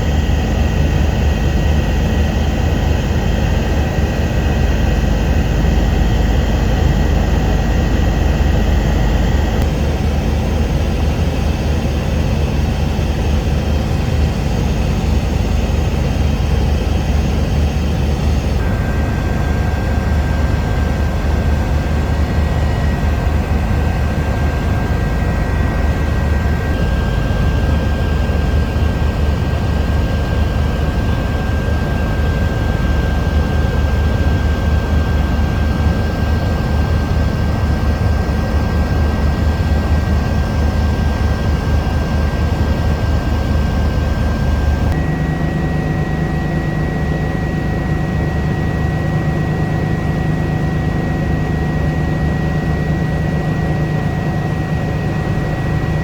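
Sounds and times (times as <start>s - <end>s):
helicopter rumble in flight: 0.0s - 56.0s
high turbine whine: 0.0s - 56.0s.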